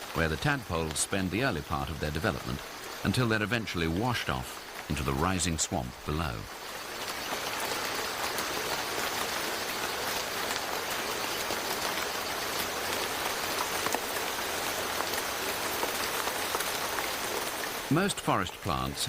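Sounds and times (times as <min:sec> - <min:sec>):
heavy rain hiss: 0:00.0 - 0:19.0
raindrops ticking: 0:00.0 - 0:19.0.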